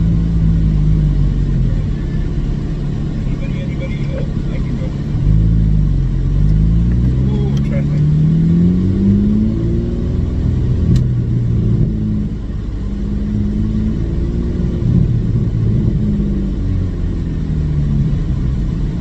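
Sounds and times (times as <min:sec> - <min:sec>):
loud car engine droning: 0:00.0 - 0:19.0.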